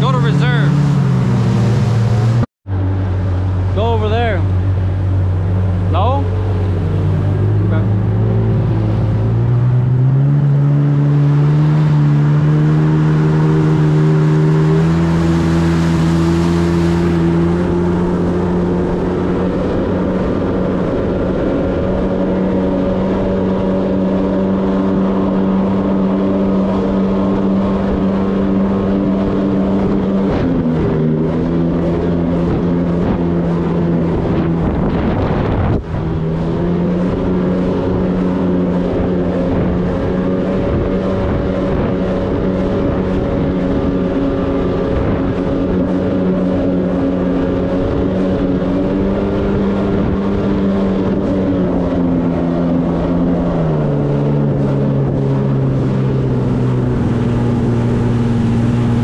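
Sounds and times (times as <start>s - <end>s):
jet ski engine running: 0.0s - 59.0s.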